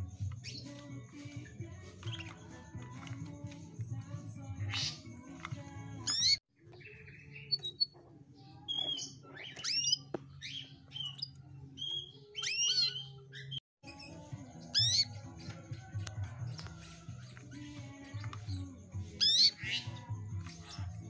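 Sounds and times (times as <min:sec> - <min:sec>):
canary chirps and whistled calls: 0:00.0 - 0:21.0.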